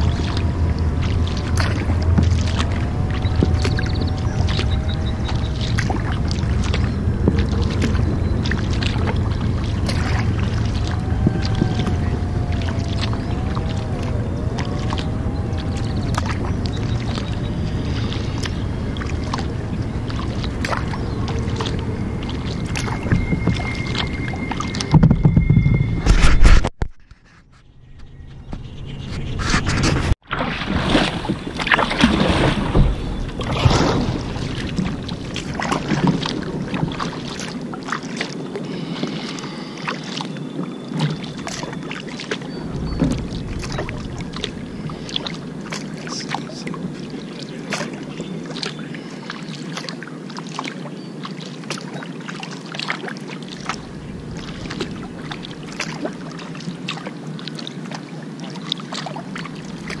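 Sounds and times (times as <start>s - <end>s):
water dripping and trickling: 0.0s - 25.8s, 30.7s - 60.0s
paddle splashing in water: 0.0s - 27.6s, 29.0s - 60.0s.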